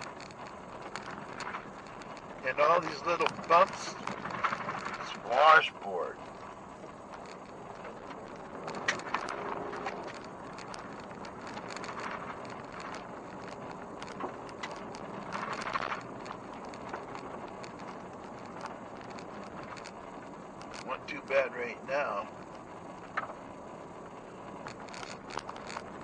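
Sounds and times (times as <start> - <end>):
car road noise on gravel: 0.0 - 26.0.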